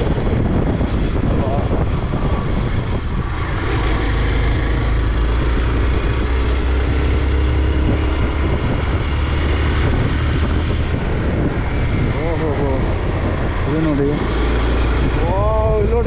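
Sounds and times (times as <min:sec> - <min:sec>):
motorcycle engine running: 0:00.0 - 0:16.0
wind on microphone: 0:00.0 - 0:16.0.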